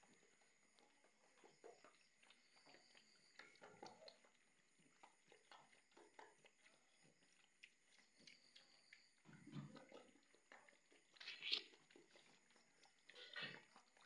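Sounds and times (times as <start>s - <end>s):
pigs slurping and chewing: 0.0s - 14.0s.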